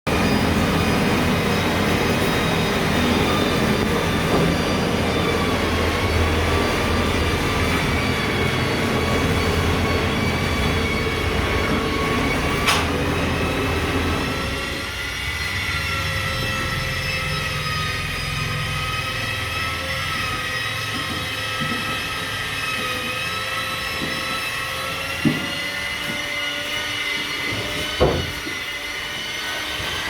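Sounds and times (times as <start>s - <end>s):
machinery rumbling: 0.1s - 26.0s.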